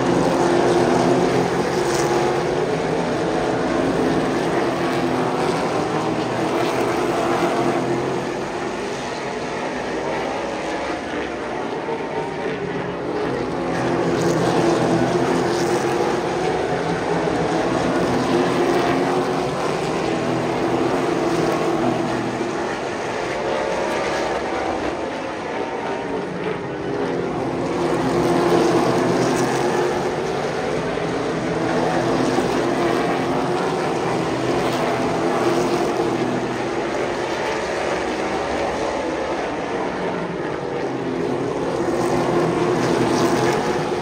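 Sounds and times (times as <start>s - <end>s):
race car engines droning: 0.0s - 44.0s.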